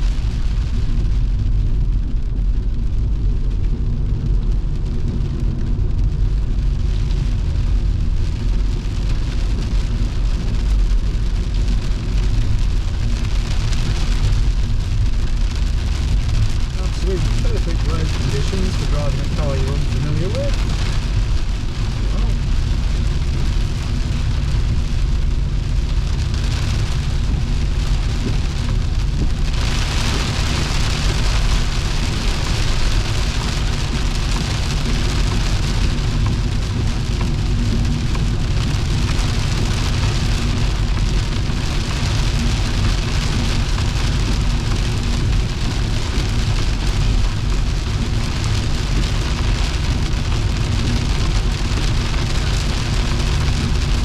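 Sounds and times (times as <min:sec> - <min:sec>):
car engine drone: 0:00.0 - 0:54.0
heavy rain on a car: 0:00.0 - 0:54.0
tyres on wet road: 0:00.0 - 0:54.0.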